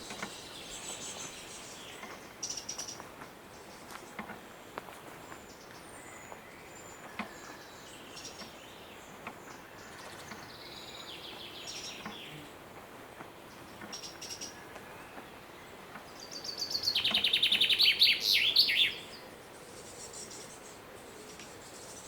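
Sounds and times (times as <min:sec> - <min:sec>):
faint steady hiss: 0:00.0 - 0:22.0
songbirds singing: 0:00.0 - 0:22.0.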